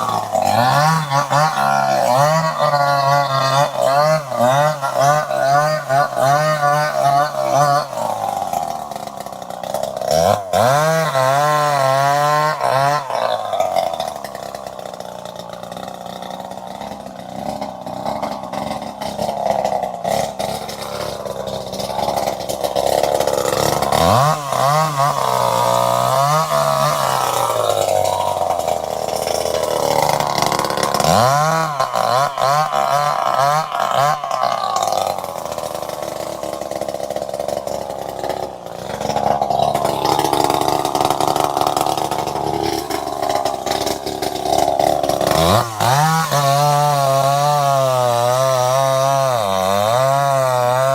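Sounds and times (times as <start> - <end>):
chainsaw engine revving: 0.0 - 50.9.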